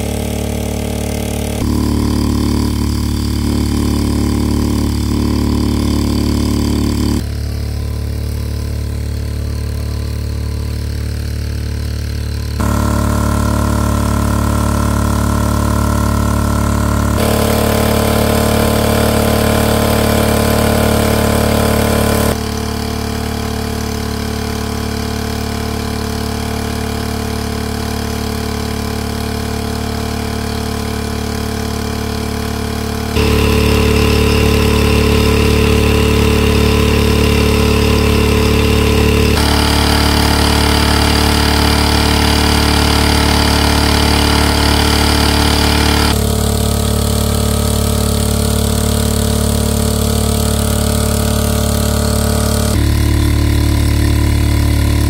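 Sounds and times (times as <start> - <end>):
engine-driven water pump running: 0.0 - 55.0.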